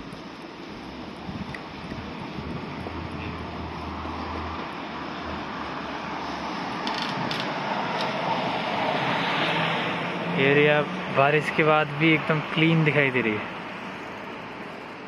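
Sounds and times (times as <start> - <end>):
traffic on wet streets: 0.0 - 15.0.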